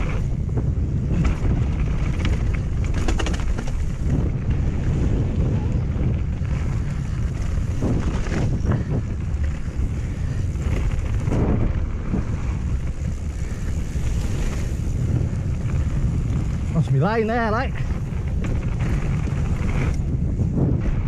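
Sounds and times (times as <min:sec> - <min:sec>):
bike knocks and rattles: 0:00.0 - 0:16.7, 0:17.8 - 0:21.0
tyre noise: 0:00.0 - 0:21.0
wind rush on microphone: 0:00.0 - 0:21.0.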